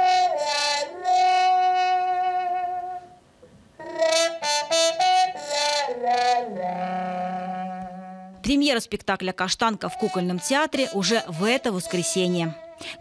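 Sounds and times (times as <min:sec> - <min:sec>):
saxophone-like wind instrument melody: 0:00.0 - 0:08.4, 0:09.8 - 0:13.0.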